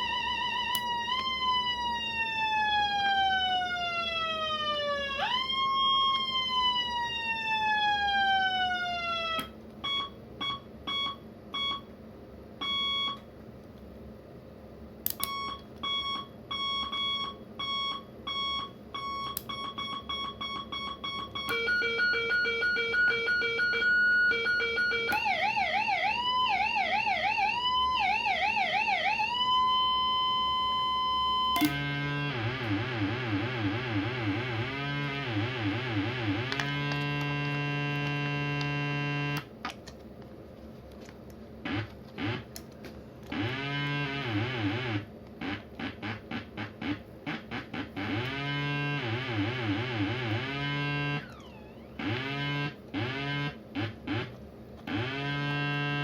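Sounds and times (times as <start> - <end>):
electronic siren: 0.0 - 11.8, 15.1 - 39.5, 41.6 - 42.5, 43.3 - 56.0.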